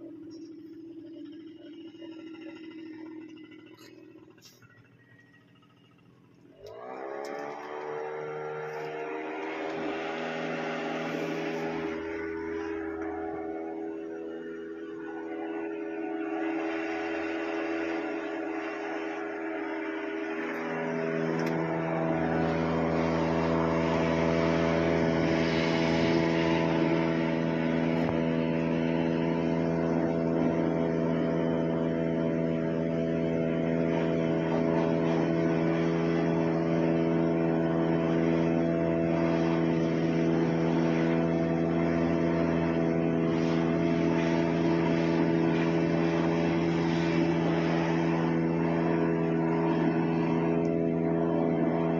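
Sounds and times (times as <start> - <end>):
tractor and baler drone: 0.0 - 51.9.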